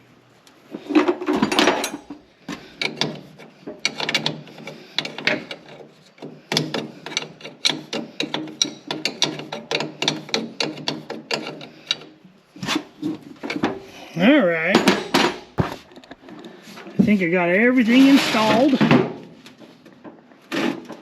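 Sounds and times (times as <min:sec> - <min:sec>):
metal parts scraping: 0:00.7 - 0:17.1, 0:17.9 - 0:19.8.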